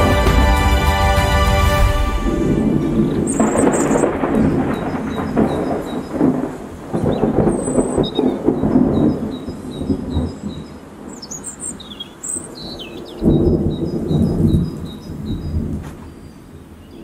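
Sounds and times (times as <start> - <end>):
thunder rumbling: 0.0 - 11.2, 12.7 - 16.0
birds chirping: 2.5 - 17.0.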